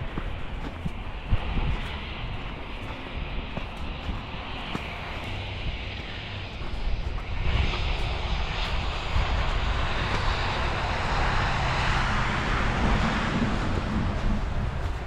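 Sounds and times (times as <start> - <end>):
traffic rumbling past: 0.0 - 15.0.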